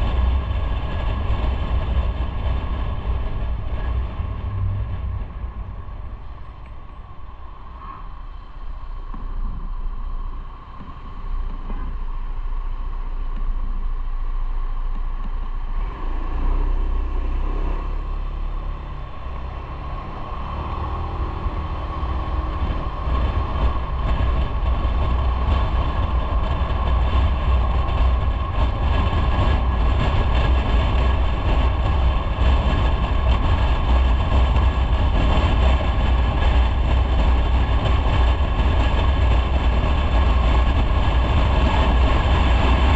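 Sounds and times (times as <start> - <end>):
motorcycle engine rumble: 0.0 - 42.9
wind and road noise: 0.0 - 42.9.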